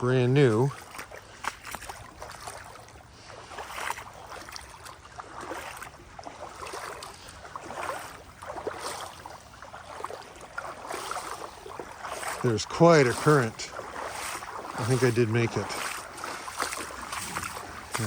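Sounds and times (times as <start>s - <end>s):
boots wading through water: 0.0s - 18.0s
rushing water current: 0.0s - 18.0s.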